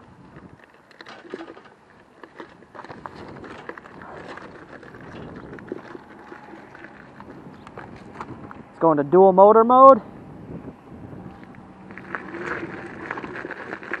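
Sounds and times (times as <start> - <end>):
tyres crunching on gravel: 0.2 - 9.2, 11.2 - 14.0.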